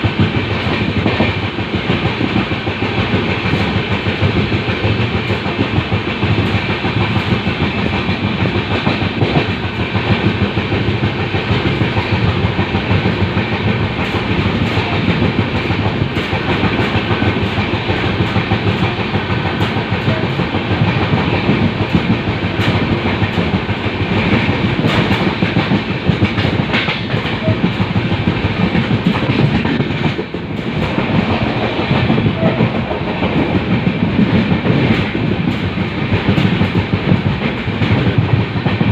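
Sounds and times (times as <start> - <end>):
train coach rail rumble: 0.0 - 38.9.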